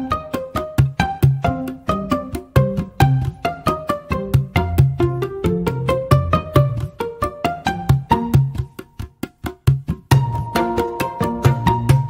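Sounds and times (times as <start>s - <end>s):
instrumental music with percussive beat: 0.0s - 12.0s.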